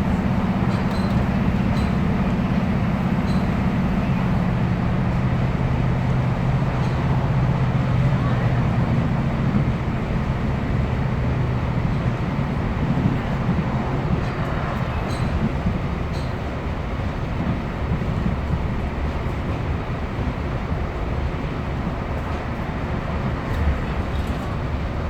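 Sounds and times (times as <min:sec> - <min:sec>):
diesel train engine running: 0:00.0 - 0:25.0
wheel and rail noise: 0:00.0 - 0:25.0.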